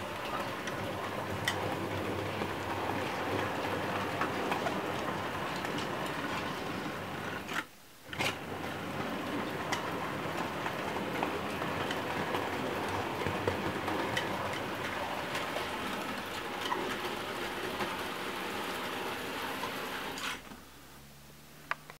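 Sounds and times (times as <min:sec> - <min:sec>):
model train wheels rumbling on rails: 0:00.0 - 0:20.4.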